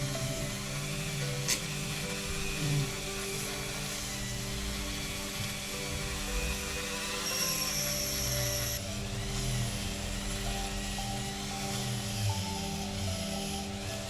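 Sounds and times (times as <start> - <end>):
rotary wire brush on metal: 0.0 - 14.0.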